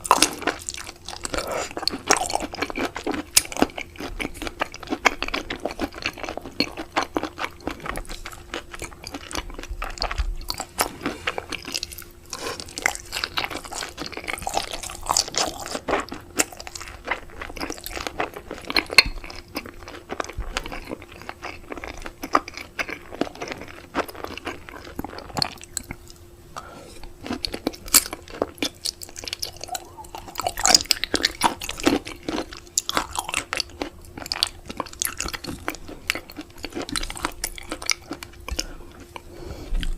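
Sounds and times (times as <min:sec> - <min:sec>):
chewing with wet crunches: 0:00.0 - 0:26.3, 0:26.9 - 0:39.9
faint steady hum: 0:00.0 - 0:39.9.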